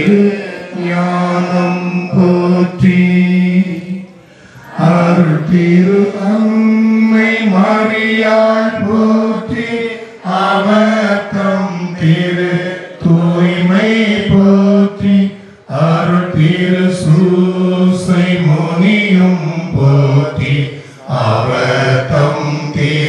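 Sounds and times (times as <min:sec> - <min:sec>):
person chanting a prayer: 0:00.0 - 0:23.0.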